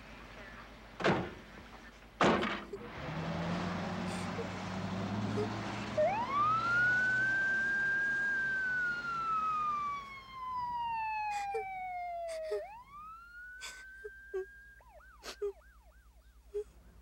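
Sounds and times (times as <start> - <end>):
ambulance siren wailing: 2.8 - 16.6.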